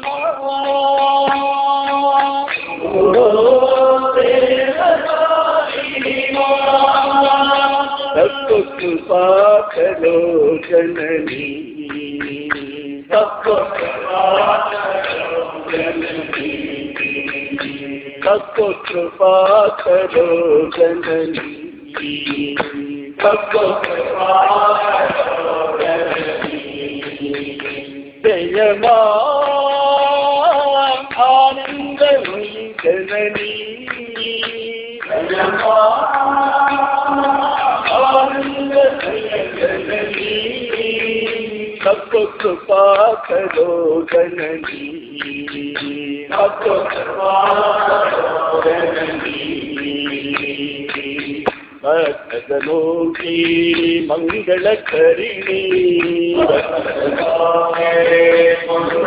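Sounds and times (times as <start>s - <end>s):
man singing devotional chant: 0.0s - 59.0s.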